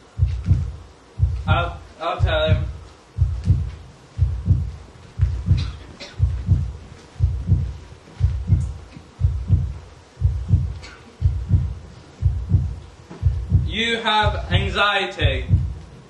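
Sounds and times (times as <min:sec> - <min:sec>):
heartbeat double thump: 0:00.1 - 0:16.0.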